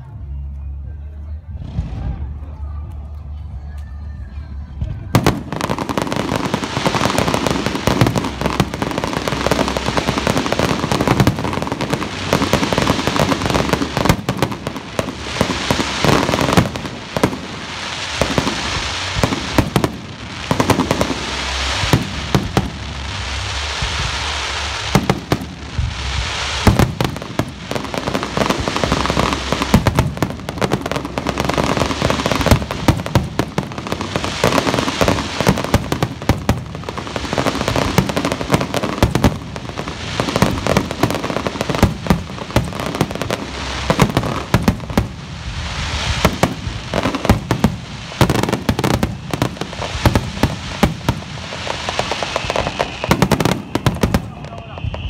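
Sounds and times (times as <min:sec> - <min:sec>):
fireworks bursting: 0:04.5 - 0:55.0.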